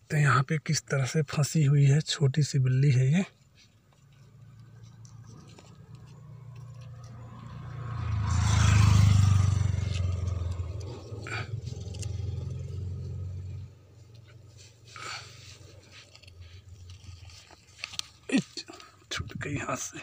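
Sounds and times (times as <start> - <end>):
vehicle engine hum: 2.7 - 20.0.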